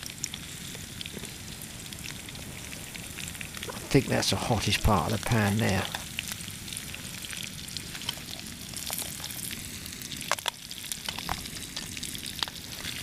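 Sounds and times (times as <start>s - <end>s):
fish and potatoes sizzling in pan: 0.0s - 13.0s.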